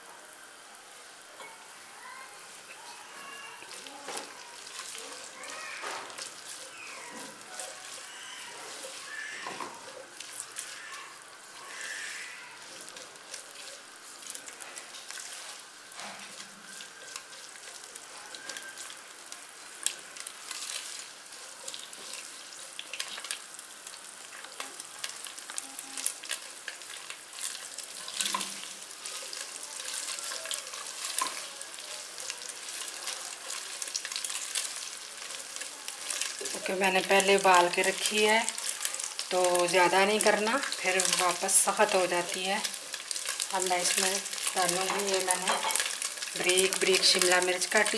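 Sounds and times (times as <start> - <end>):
chicken sizzling in a pan: 0.0 - 47.9
spatula clicking and scraping: 3.6 - 19.0, 24.3 - 47.9.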